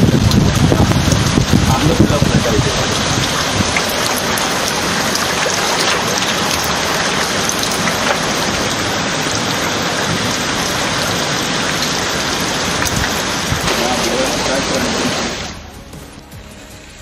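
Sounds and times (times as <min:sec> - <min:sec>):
raindrop ticks: 0:00.0 - 0:14.7
heavy rain hissing: 0:00.0 - 0:17.0.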